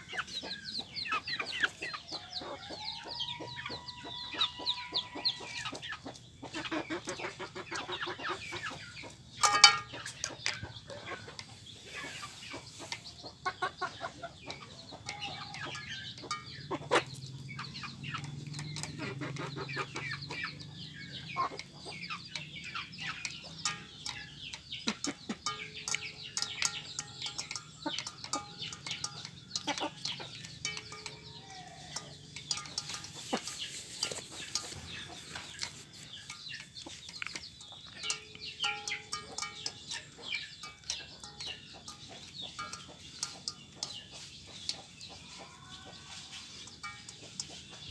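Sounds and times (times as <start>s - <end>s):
chickens clucking and squabbling: 0.0s - 47.9s.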